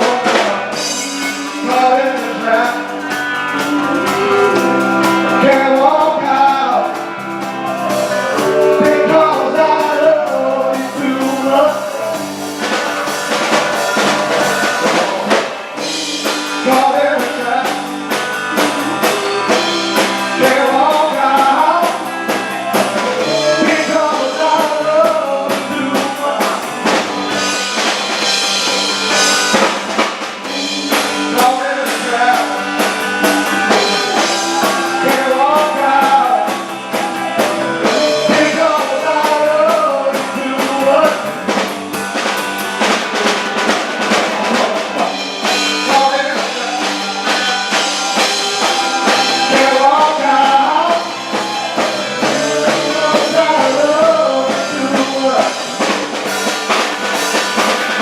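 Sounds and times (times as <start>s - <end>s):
lead singer singing: 0.0s - 58.0s
live band playing: 0.0s - 58.0s.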